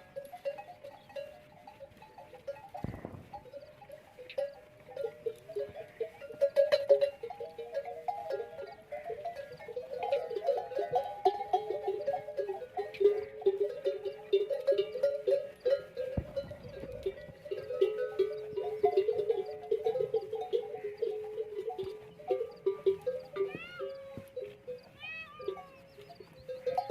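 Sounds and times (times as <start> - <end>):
camel neck bells clanking: 0.0 - 26.9.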